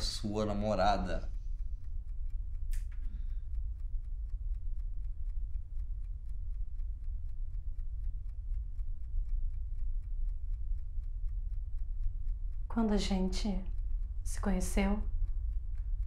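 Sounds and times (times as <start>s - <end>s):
clock ticking quickly: 0.0s - 16.0s
steady low hum: 0.0s - 16.0s.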